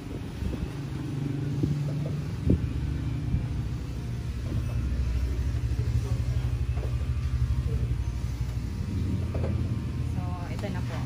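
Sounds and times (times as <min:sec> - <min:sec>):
machine motor hum: 0:00.0 - 0:11.0
rhythmic conveyor pulsing: 0:00.0 - 0:11.0.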